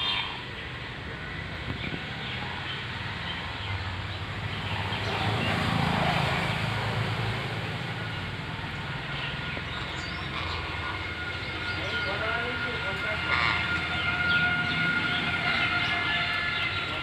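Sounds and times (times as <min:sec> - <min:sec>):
passing traffic rumble: 0:00.0 - 0:17.0.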